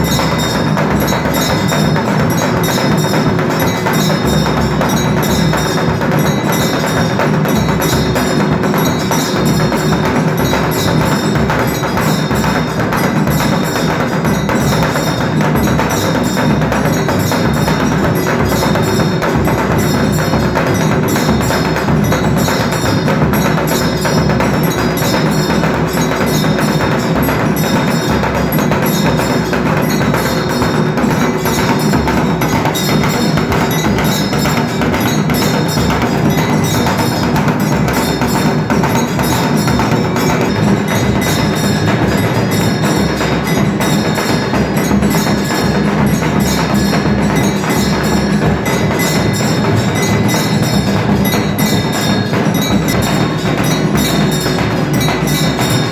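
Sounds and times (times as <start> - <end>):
drum beating fast: 0.0 - 55.9
metallic bell ringing: 0.0 - 55.9.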